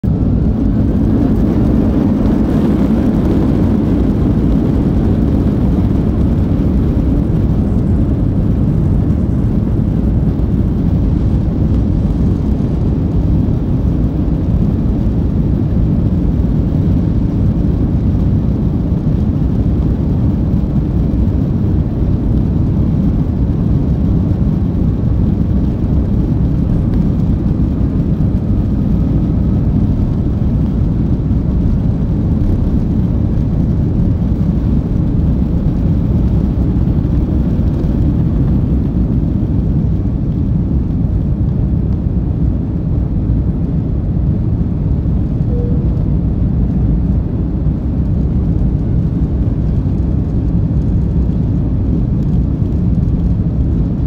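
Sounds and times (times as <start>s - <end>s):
jet engines rumbling: 0.0s - 54.0s
wheels rumbling on ground: 0.0s - 54.0s.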